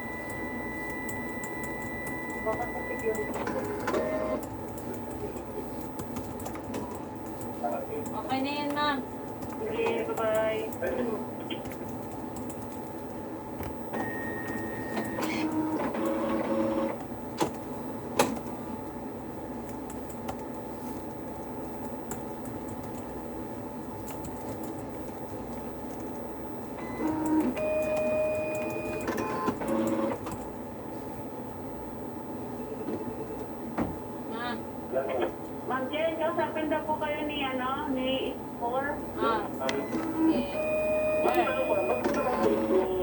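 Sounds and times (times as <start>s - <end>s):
office machine whirring: 0.0s - 34.3s, 39.2s - 43.0s
steady hum: 0.0s - 43.0s.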